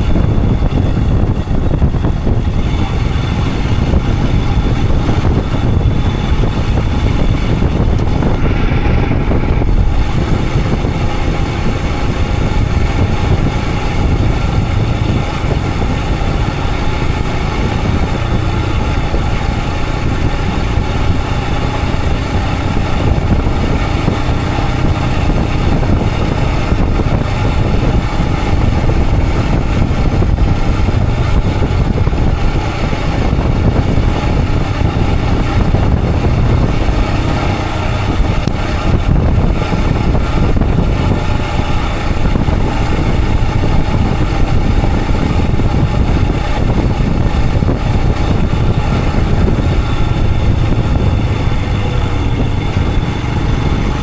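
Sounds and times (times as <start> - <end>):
motorcycle engine running: 0.0 - 54.0
wind rumble on microphone: 0.0 - 54.0.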